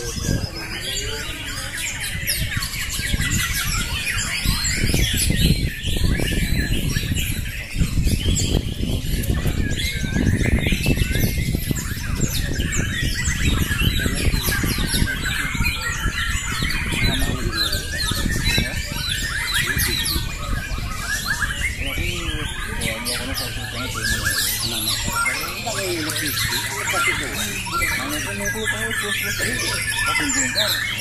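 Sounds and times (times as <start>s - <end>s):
many birds singing: 0.0s - 31.0s.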